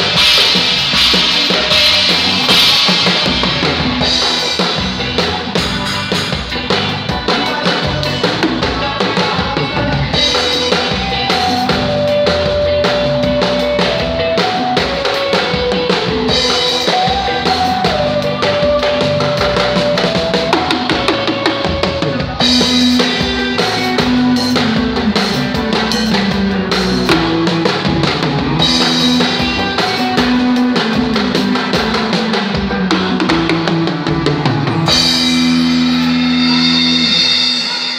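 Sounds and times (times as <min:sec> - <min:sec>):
band playing held notes: 0:00.0 - 0:37.9
drum kit played hard: 0:00.0 - 0:37.9.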